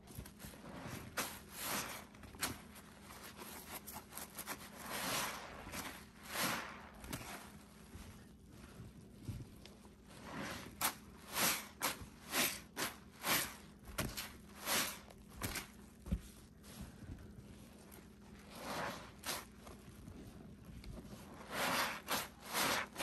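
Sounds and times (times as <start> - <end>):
sponge squelching: 0.2 - 23.0.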